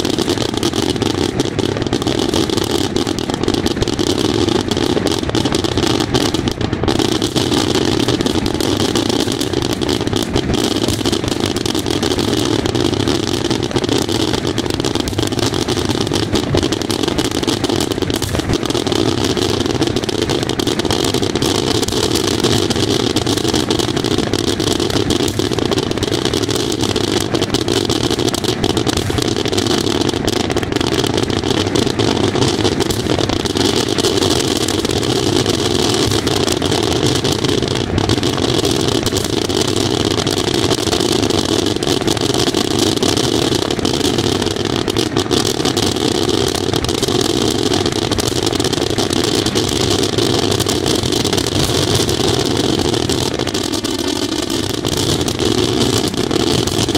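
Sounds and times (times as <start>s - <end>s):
fireworks crackling barrage: 0.0s - 56.9s.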